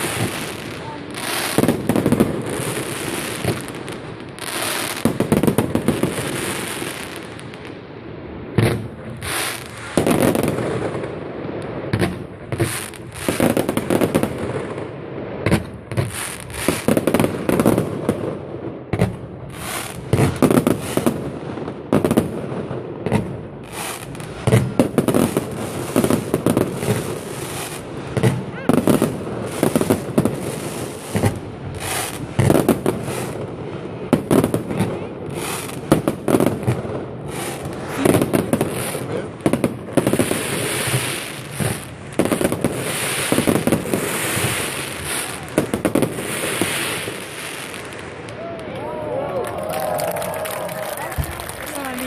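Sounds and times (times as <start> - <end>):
firework crackling: 0.0 - 52.0.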